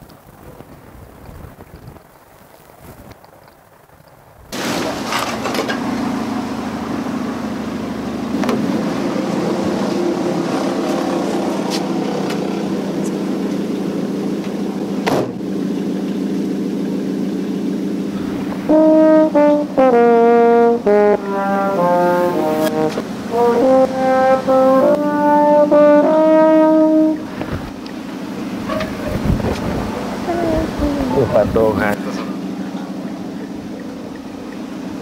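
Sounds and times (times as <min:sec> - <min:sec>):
car engine idling: 0:04.6 - 0:35.0.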